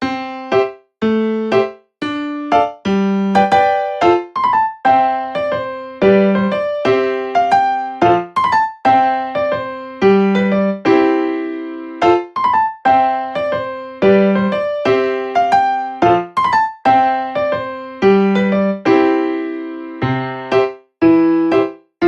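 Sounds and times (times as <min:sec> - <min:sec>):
light keyboard melody: 0:00.0 - 0:22.0.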